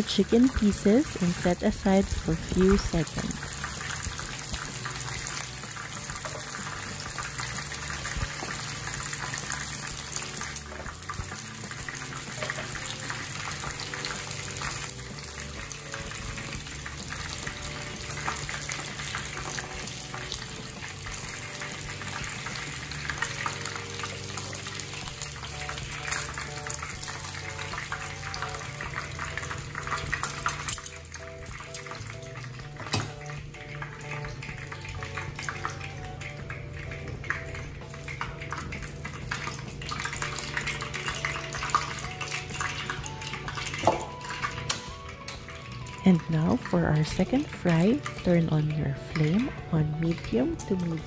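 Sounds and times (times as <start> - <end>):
oil sizzling in a frying pan: 0.0 - 51.0.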